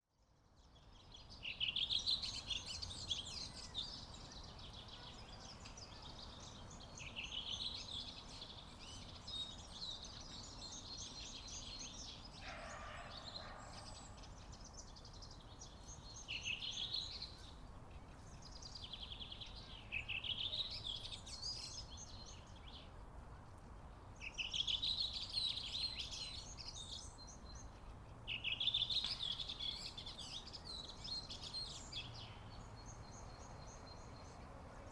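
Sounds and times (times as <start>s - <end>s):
songbirds singing: 0.6s - 23.1s, 23.9s - 34.9s.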